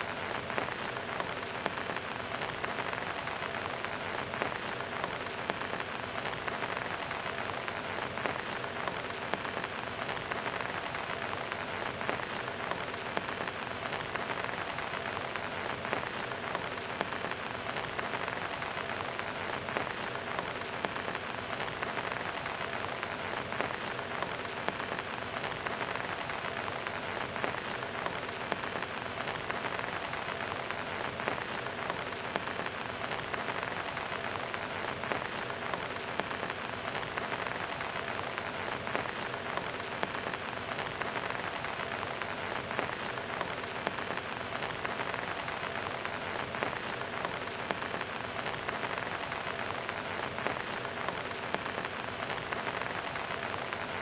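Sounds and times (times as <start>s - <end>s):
rain pattering on concrete: 0.0s - 54.0s.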